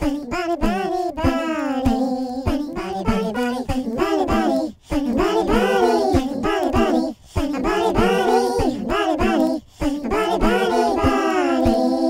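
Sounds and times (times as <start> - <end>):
song with singing over beat: 0.7 - 12.0.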